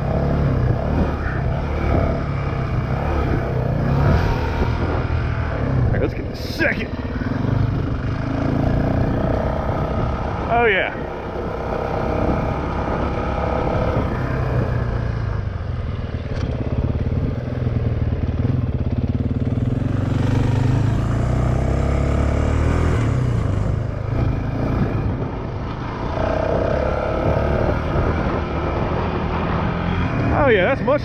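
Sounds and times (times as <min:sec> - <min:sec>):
dirt bike engine under throttle: 0:00.0 - 0:31.0.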